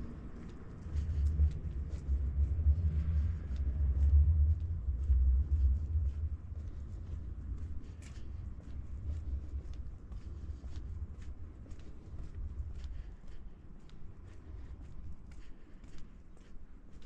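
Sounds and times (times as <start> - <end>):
low uneven rumble: 0.0 - 15.9.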